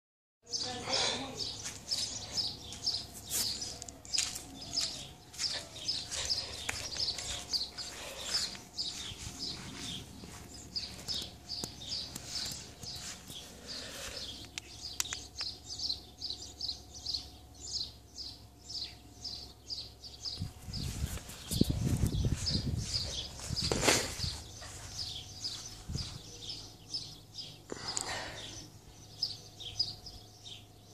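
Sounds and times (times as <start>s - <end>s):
faint steady hum: 0.5s - 30.9s
small bird chirping: 0.5s - 30.9s.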